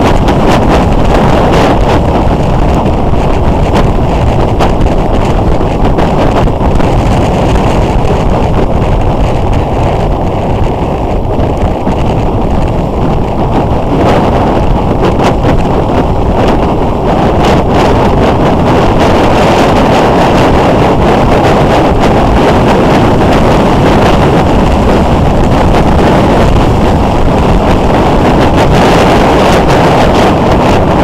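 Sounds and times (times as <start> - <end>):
gusting crackles: 0.0 - 31.0
motorcycle running: 0.0 - 31.0
wind buffeting microphone: 0.0 - 31.0.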